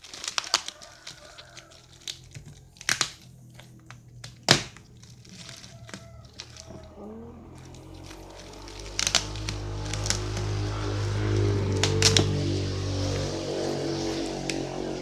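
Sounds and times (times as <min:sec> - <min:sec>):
plastic wrapping crinkling: 0:00.0 - 0:12.4.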